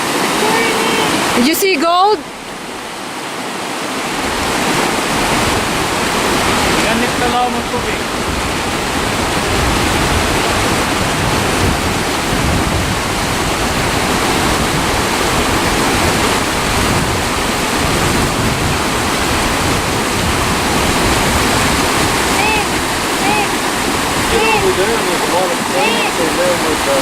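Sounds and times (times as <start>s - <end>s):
rushing flowing water: 0.0s - 27.0s.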